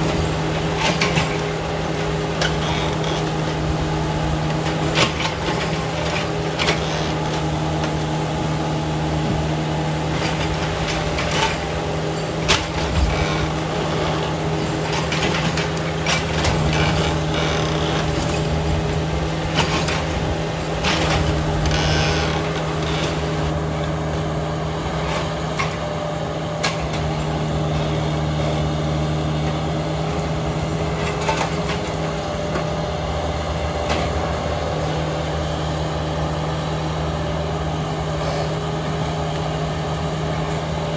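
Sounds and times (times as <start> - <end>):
diesel excavator engine running: 0.0 - 40.9.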